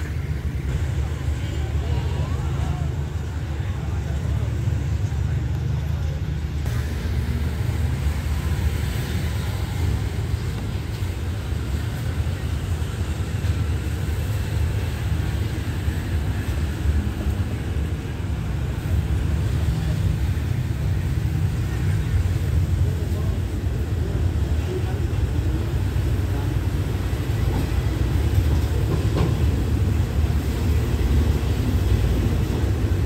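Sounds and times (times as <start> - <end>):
train rumbling slowly: 0.0 - 33.0.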